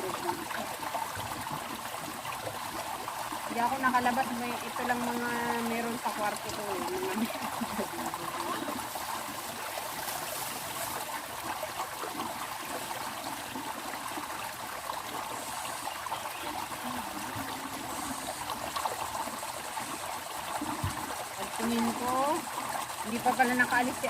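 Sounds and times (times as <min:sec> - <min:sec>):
stream running water: 0:00.0 - 0:24.0.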